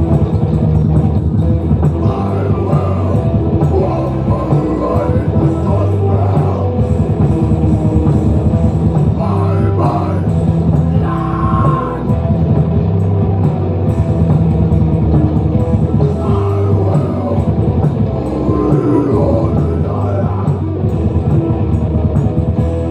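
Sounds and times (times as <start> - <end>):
metal band playing live: 0.0 - 22.9.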